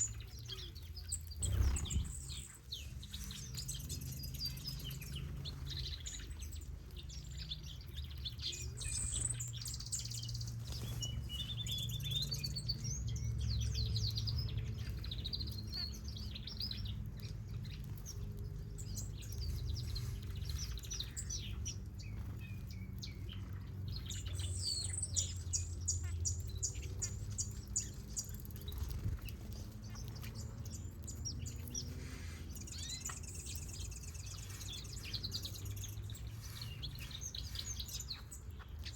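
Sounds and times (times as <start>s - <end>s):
birds chirping and whistling: 0.0s - 38.9s.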